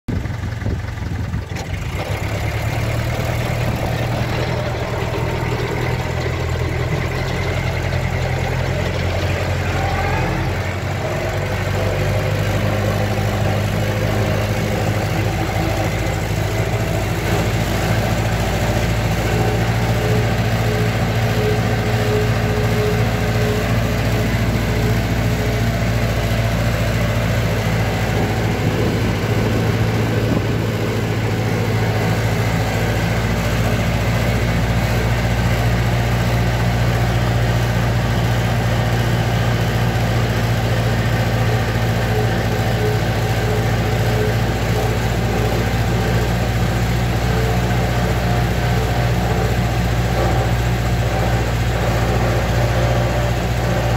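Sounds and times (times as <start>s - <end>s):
tractor engine droning: 0.1s - 53.9s.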